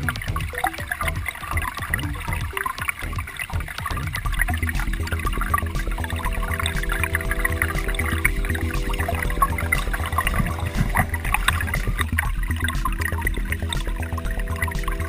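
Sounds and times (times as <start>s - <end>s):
background music with held notes: 0.0s - 15.0s
creek water trickling: 0.0s - 15.0s.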